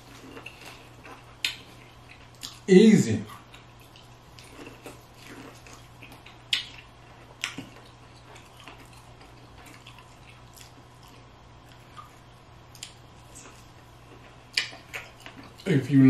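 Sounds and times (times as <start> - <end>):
wet chewing and lip smacking: 0.0 - 2.7, 3.3 - 15.7.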